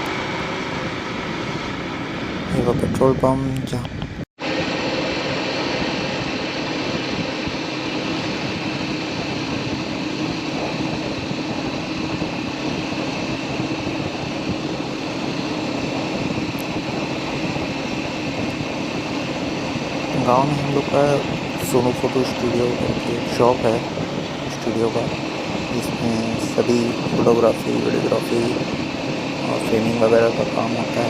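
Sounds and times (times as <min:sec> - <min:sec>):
motorcycle engine hum: 0:00.0 - 0:31.0
road noise: 0:00.0 - 0:31.0
wind: 0:00.0 - 0:31.0.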